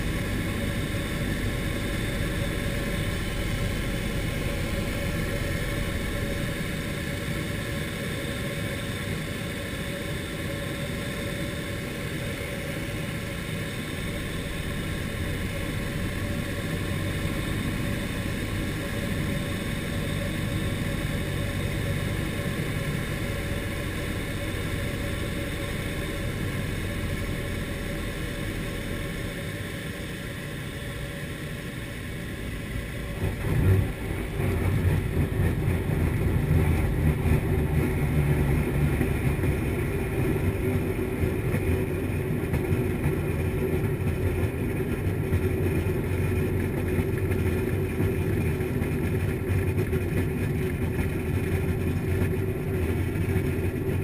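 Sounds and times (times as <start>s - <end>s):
aircraft engine droning: 0.0s - 54.0s.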